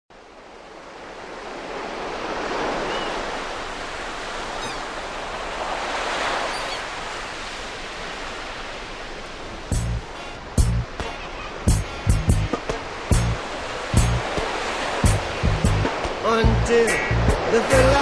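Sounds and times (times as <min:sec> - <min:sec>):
ocean waves breaking: 0:00.2 - 0:18.0.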